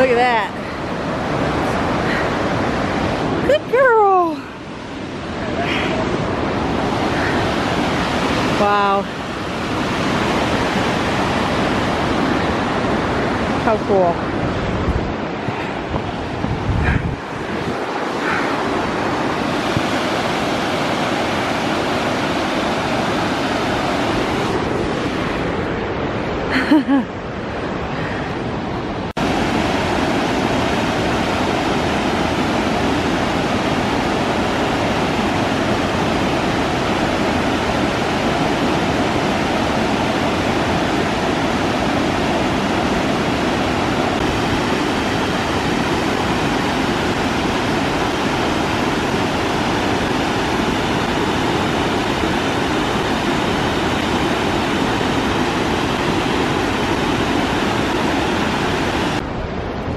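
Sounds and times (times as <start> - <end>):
waterfall rushing: 0.0 - 59.3.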